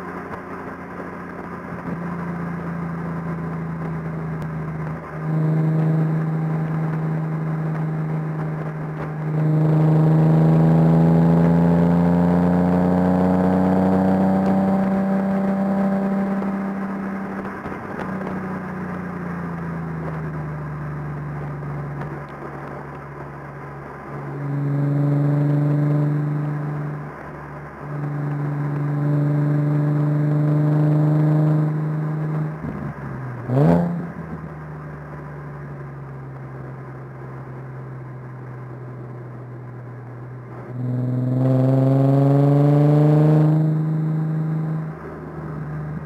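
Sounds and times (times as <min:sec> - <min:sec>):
car engine from inside cabin: 0:00.0 - 0:46.0.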